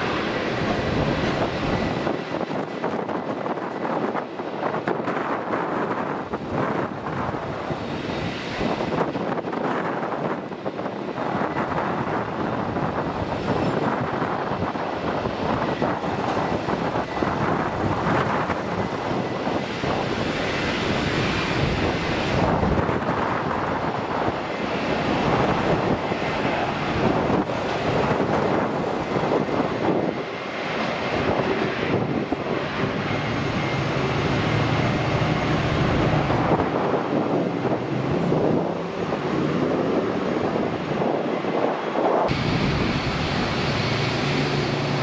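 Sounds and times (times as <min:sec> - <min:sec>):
jet engine landing: 0:00.0 - 0:45.0
wind buffeting microphone: 0:00.0 - 0:45.0.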